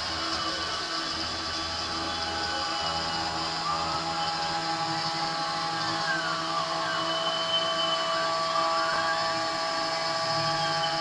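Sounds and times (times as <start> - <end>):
spindle whine milling metal: 0.0 - 11.0.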